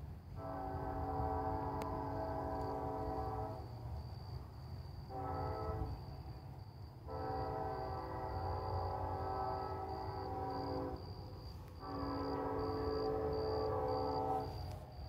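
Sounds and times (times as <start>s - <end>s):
low rumble of train: 0.0s - 15.0s
locomotive air horn blasts: 0.3s - 4.0s, 5.0s - 6.1s, 7.0s - 14.9s.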